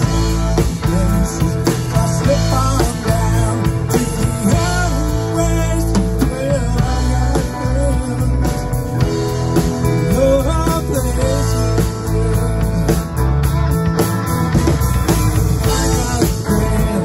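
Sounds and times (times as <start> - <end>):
drum kit: 0.0 - 17.0
electric guitar: 0.0 - 17.0
live rock band: 0.0 - 17.0.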